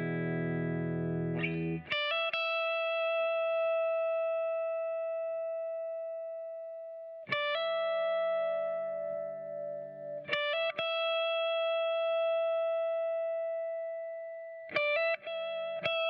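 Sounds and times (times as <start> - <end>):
clean electric guitar: 0.0 - 16.0.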